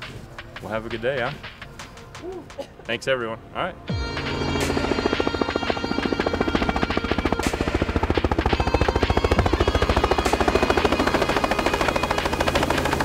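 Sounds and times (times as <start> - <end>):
helicopter rotor chop: 0.0 - 2.2, 4.0 - 13.0.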